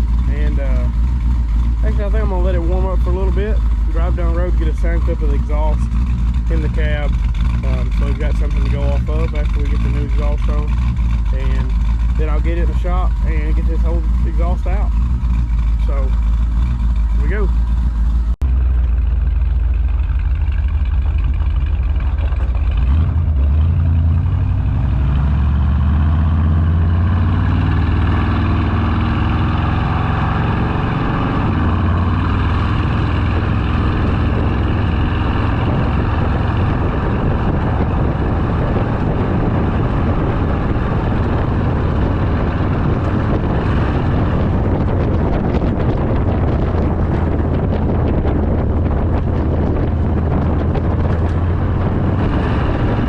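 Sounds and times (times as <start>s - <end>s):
car engine accelerating and cruising: 0.0s - 53.0s.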